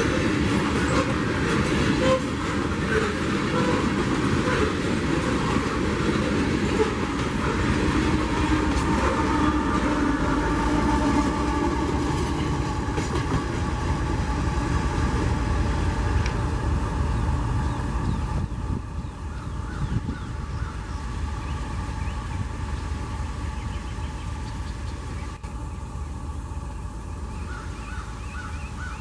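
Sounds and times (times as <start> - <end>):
freight train cars rolling past: 0.0 - 29.0.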